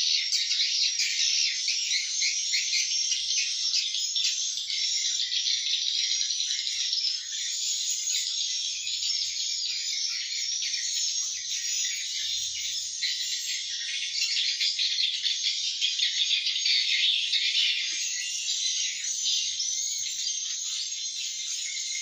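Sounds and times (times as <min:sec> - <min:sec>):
swiftlets twittering and chirping: 0:00.0 - 0:22.0.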